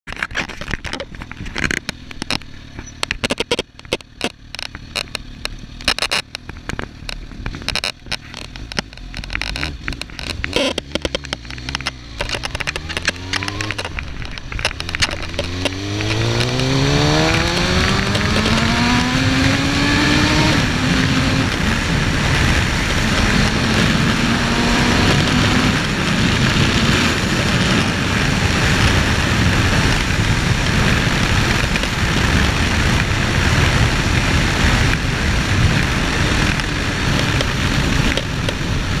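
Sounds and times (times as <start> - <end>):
crackling recording noise: 0.0 - 39.0
motorcycle engine: 0.1 - 39.0
wind noise on microphone: 6.0 - 39.0.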